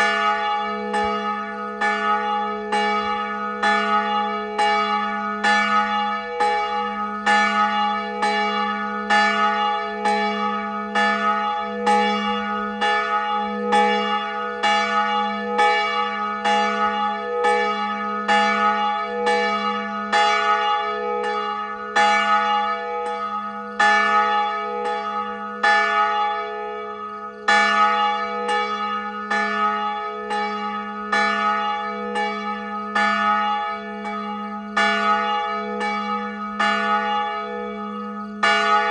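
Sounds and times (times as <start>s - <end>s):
church bell tolling: 0.0s - 38.9s.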